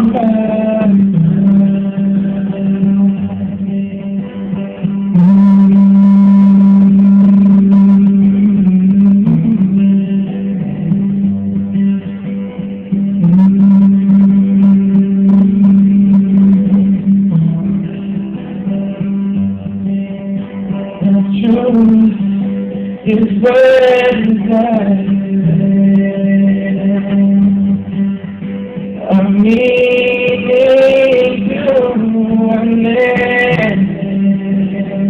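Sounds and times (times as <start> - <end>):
band playing guitar passage: 0.0 - 35.0.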